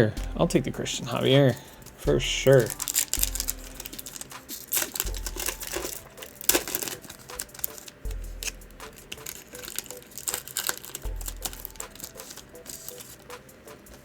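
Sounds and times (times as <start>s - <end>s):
wrapper crinkling: 0.0s - 14.0s.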